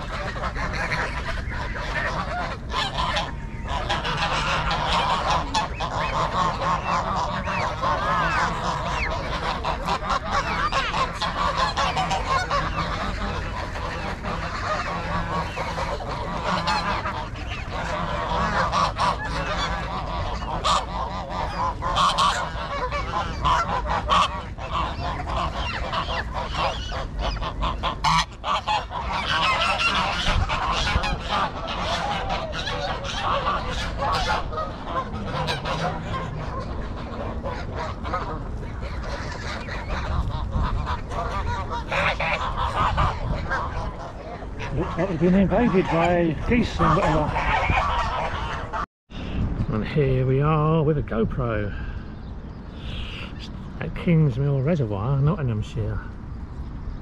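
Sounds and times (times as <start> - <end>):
geese honking: 0.0 - 56.2.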